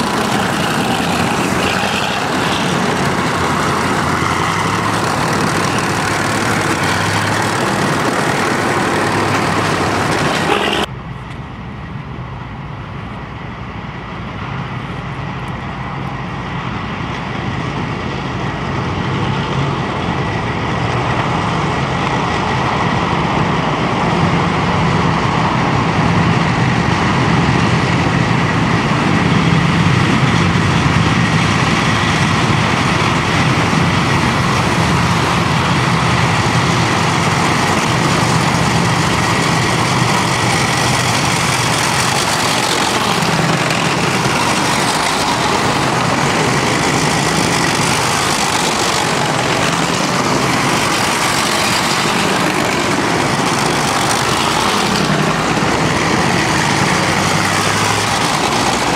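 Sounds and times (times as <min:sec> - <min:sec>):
tracked armoured vehicles driving: 0:00.0 - 0:58.9.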